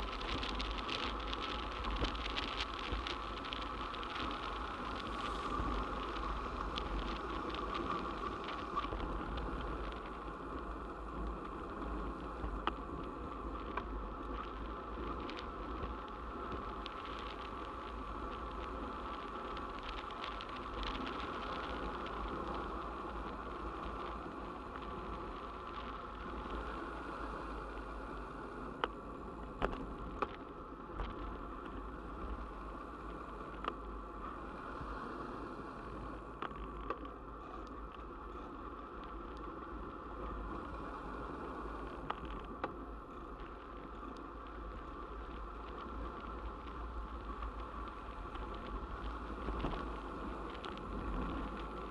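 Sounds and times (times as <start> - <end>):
bike ticks and knocks over bumps: 0.0 - 26.7, 28.7 - 34.3, 36.3 - 40.9, 41.8 - 51.9
bicycle tyres rolling on road: 0.0 - 51.9.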